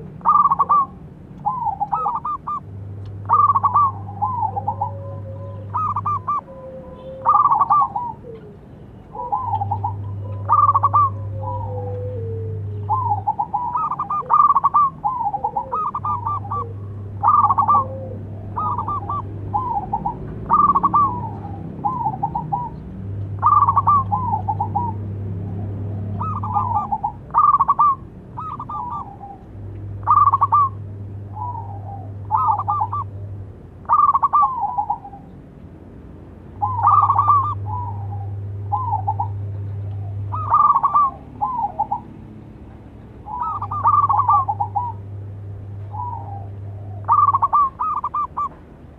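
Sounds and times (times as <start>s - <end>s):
dove cooing: 0.0s - 35.4s, 36.6s - 42.4s, 43.2s - 48.6s.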